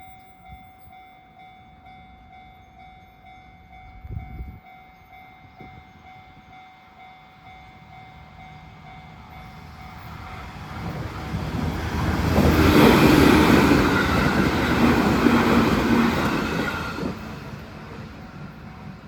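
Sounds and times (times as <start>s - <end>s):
train passing with rolling wheels: 0.0s - 19.0s.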